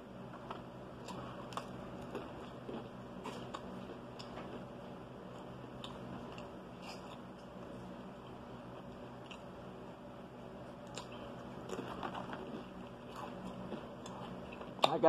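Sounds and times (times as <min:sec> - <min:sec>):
faint steady hum: 0:00.0 - 0:15.0
quiet chewing and crunches: 0:00.2 - 0:15.0.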